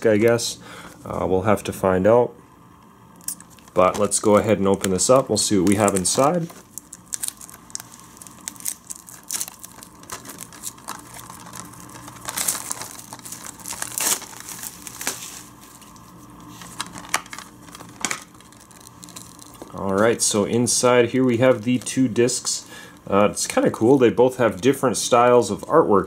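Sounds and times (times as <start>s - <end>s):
plastic shrink-wrap tearing: 3.2s - 22.6s, 23.4s - 25.8s.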